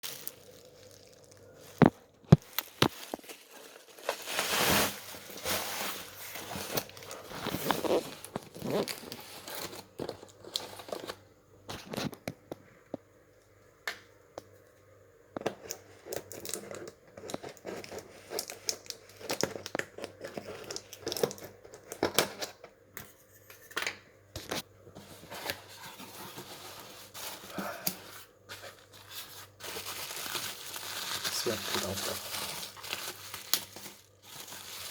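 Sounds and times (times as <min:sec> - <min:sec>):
packaging crinkling and tearing: 0:00.0 - 0:12.3, 0:15.7 - 0:22.6, 0:24.4 - 0:34.9.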